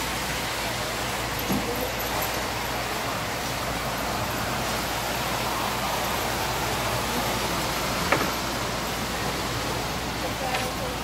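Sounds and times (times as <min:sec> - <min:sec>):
rushing background noise: 0:00.0 - 0:11.0.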